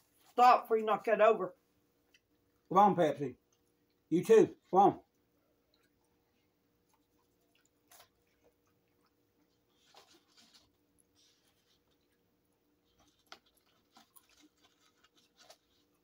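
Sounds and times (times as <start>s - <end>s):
faint chewing: 1.9s - 2.7s, 3.4s - 16.0s.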